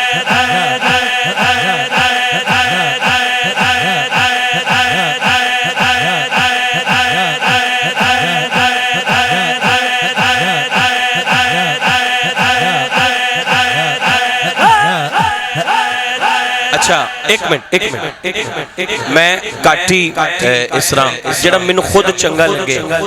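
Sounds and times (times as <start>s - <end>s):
men chanting rhythmically: 0.0s - 23.0s.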